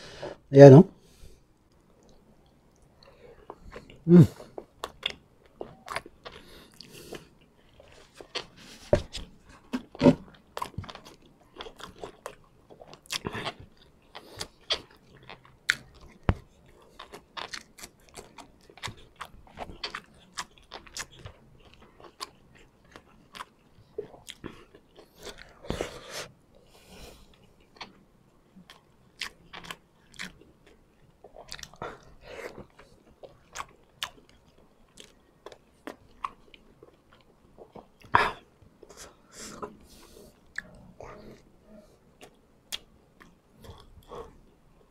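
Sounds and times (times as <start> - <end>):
close chewing mouth noises: 2.0 - 26.2, 27.3 - 44.9.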